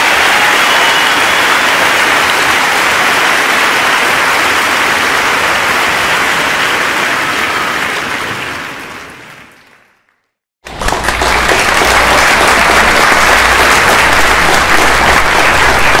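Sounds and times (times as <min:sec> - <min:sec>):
large audience applauding: 0:00.0 - 0:16.0.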